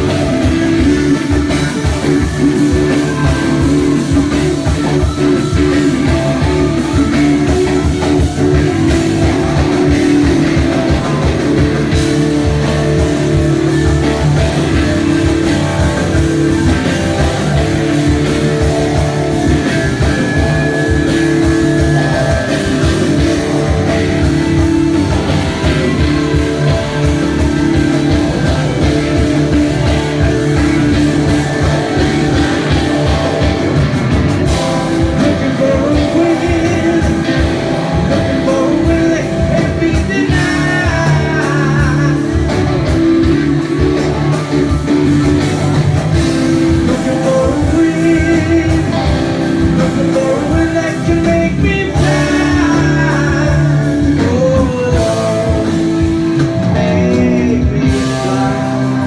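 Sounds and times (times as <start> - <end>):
drums: 0.0 - 59.0
electric guitars: 0.0 - 59.0.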